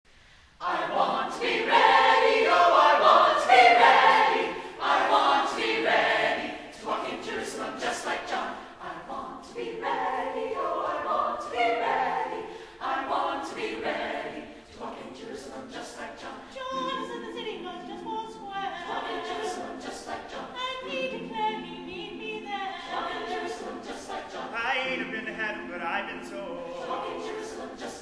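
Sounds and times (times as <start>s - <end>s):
choir singing a cappella: 0.5s - 28.0s.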